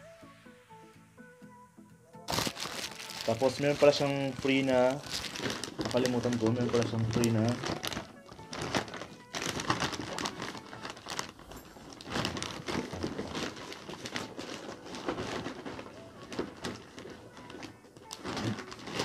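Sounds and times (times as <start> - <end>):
plastic bag rustling: 2.3 - 19.0.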